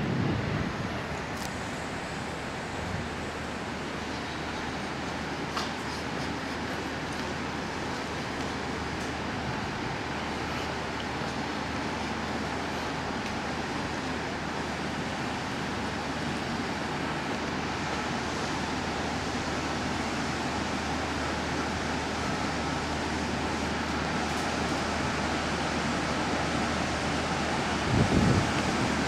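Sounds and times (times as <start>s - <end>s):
train running noise: 0.0s - 29.0s.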